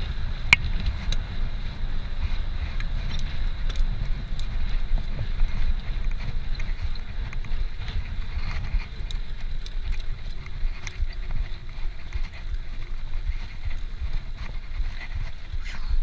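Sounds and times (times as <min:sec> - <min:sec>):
bicycle clicks and rattles: 0:00.0 - 0:16.0
wind buffeting microphone: 0:00.0 - 0:16.0.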